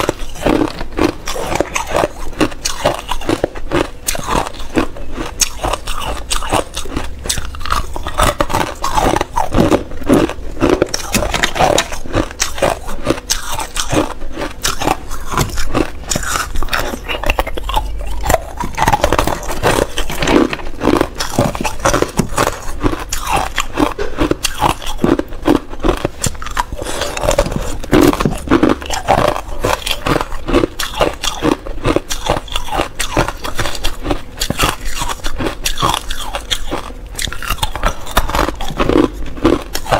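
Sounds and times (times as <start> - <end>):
ice cubes crunched by teeth: 0.0 - 39.9.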